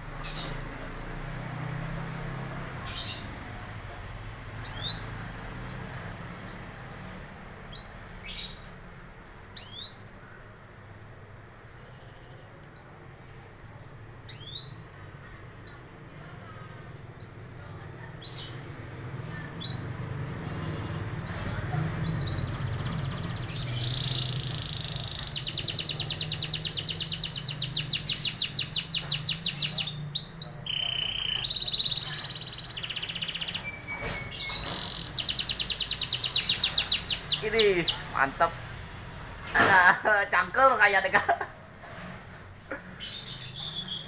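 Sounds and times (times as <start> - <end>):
canary chirping: 0.0 - 8.8, 9.5 - 10.2, 10.8 - 14.9, 17.2 - 39.2, 42.8 - 44.0.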